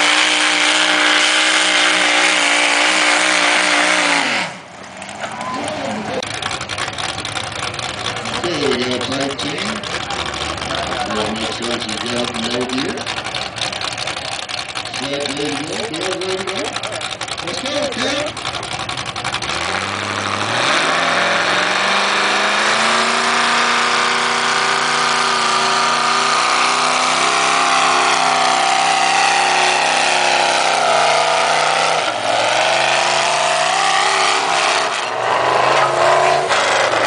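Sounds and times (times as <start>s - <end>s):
tractor engine at full throttle: 0.0s - 37.0s.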